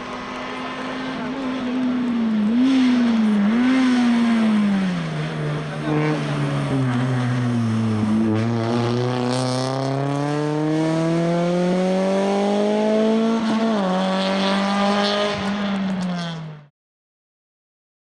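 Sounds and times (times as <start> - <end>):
car engine revving hard: 0.0 - 16.7.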